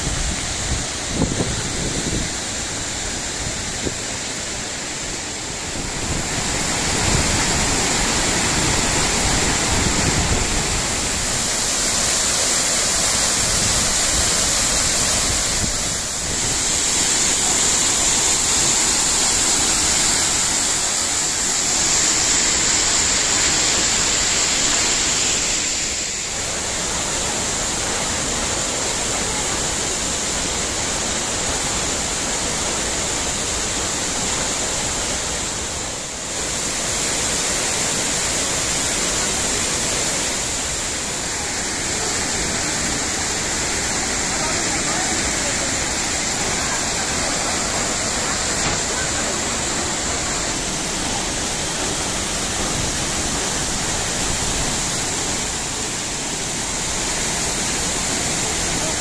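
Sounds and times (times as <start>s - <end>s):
waterfall rushing onto boulders: 0.0s - 59.0s.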